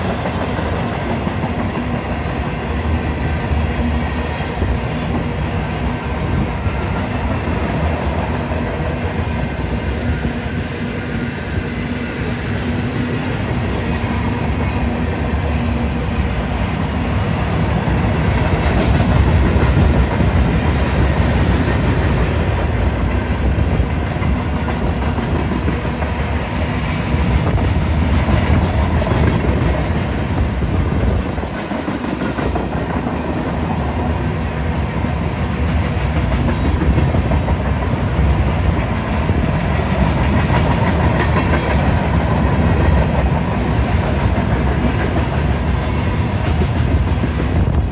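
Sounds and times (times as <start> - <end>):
freight train wheels on track: 0.0 - 47.9.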